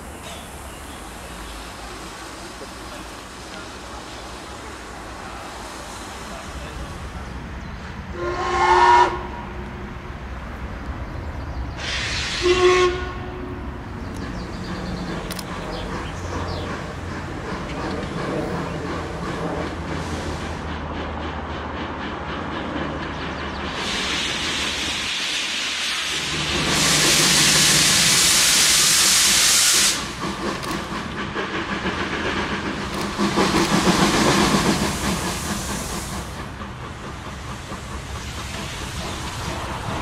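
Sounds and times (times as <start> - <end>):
steam hissing: 0.0 - 9.4, 11.6 - 13.2, 13.9 - 40.0.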